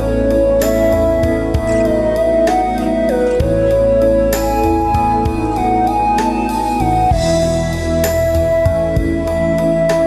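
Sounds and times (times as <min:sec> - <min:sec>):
slow bass line: 0:00.0 - 0:10.0.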